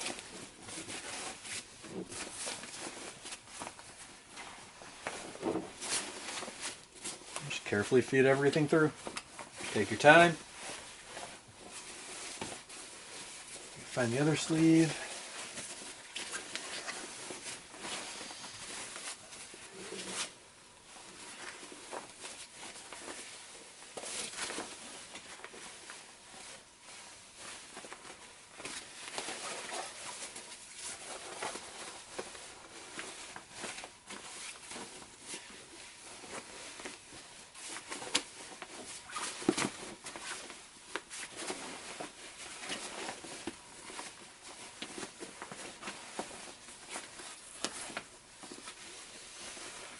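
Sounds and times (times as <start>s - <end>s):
fabric rustling: 0.0s - 49.9s.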